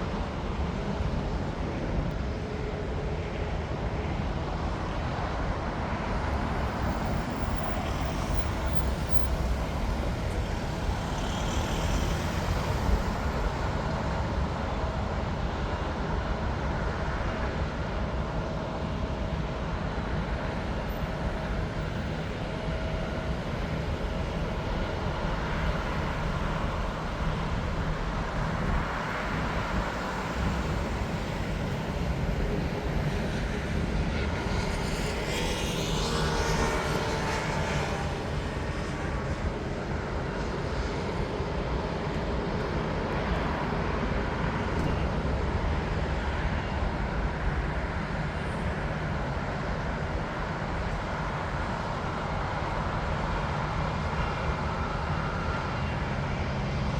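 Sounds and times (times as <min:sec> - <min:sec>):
distant jet aircraft: 0:00.0 - 0:56.9
low rumble of road traffic: 0:00.0 - 0:56.9.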